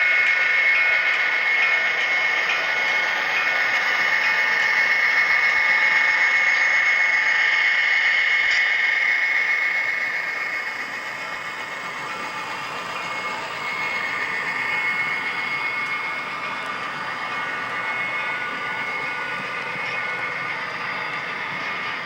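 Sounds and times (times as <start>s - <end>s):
model train motor whine: 0.0s - 22.0s.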